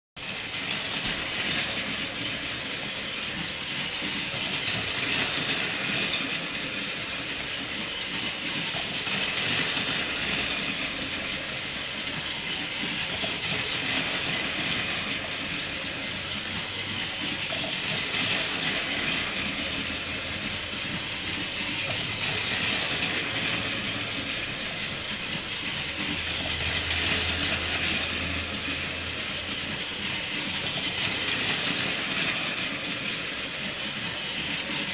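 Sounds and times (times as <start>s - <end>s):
toy train motor whirring: 0.2s - 34.9s
toy train wheel clatter: 0.2s - 34.9s.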